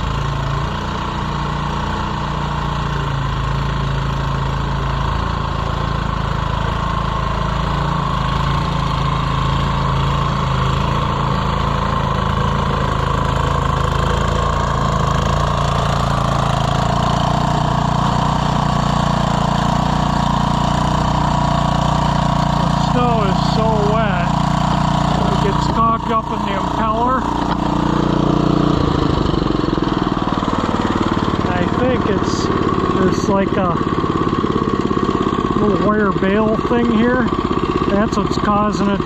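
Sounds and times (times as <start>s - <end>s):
snowblower engine running: 0.0s - 39.0s.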